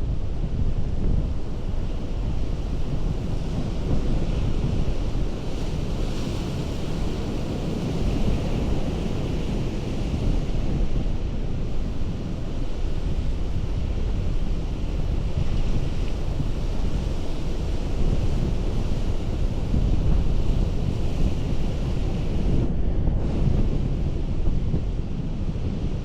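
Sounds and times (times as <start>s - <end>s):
ocean surf on rocks: 0.0s - 26.0s
wind rumbling on microphone: 0.0s - 26.0s.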